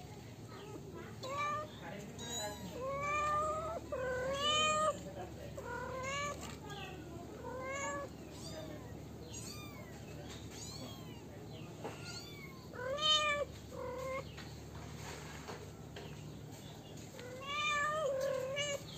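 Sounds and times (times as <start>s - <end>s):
kittens meowing: 0.6s - 14.4s, 17.2s - 18.9s.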